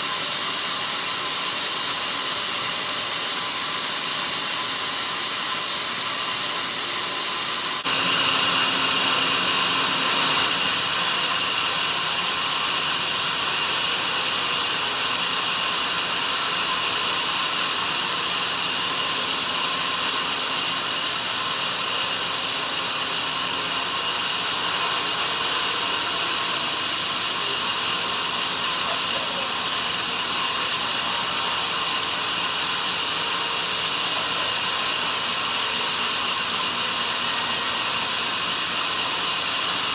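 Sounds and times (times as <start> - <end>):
band saw cutting through log: 4.6 - 39.9.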